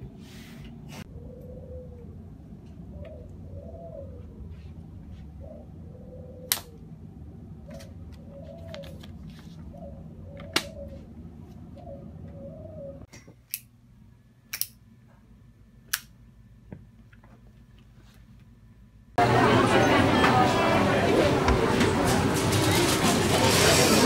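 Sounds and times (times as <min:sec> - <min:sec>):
low room hum: 0:00.0 - 0:23.5.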